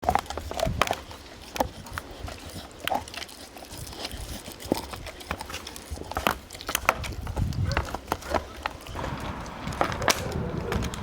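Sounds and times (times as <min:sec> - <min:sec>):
dog chewing bone: 0:00.0 - 0:11.0.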